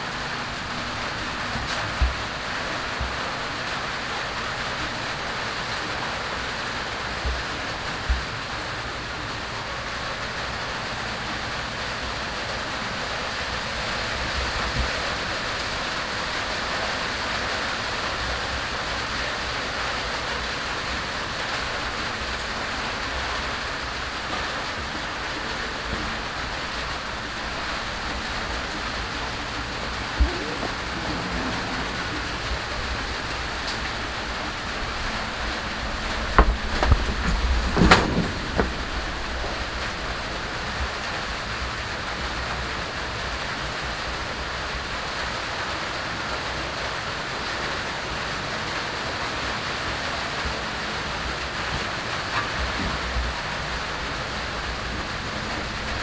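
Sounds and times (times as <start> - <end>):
heavy rain on a metal roof: 0.0 - 56.0.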